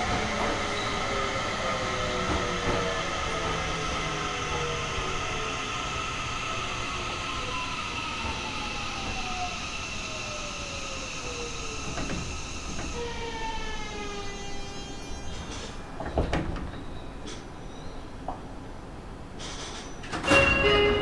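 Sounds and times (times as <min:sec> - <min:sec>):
train wheels rumbling: 0:00.0 - 0:18.5.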